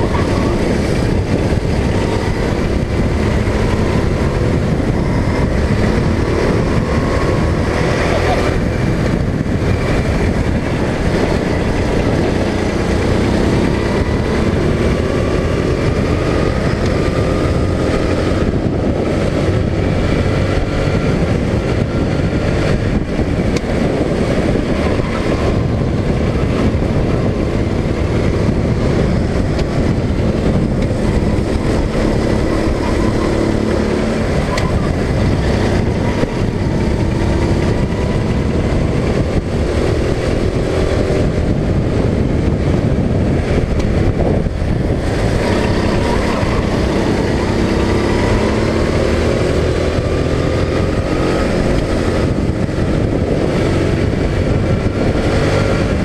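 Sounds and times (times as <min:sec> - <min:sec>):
go-kart engine racing: 0:00.0 - 0:56.0.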